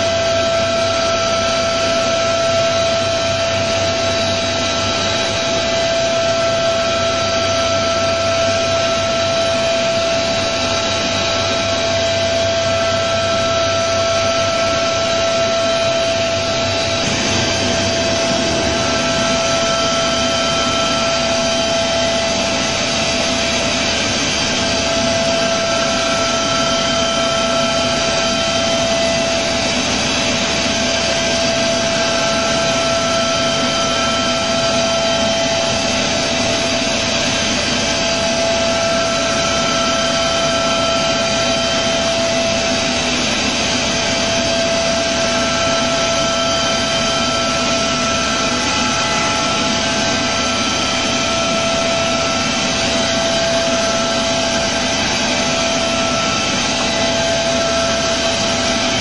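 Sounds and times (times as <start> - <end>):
milling machine whine: 0.0 - 59.0.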